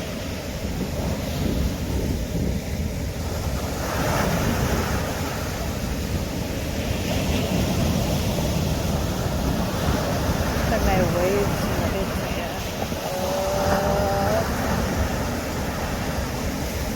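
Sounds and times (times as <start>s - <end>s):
ocean surf breaking: 0.0s - 16.9s
wind buffeting microphone: 0.0s - 16.9s.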